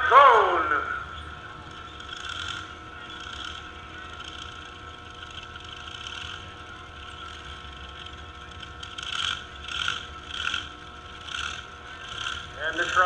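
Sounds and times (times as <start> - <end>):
truck engines rumbling: 0.0 - 13.0.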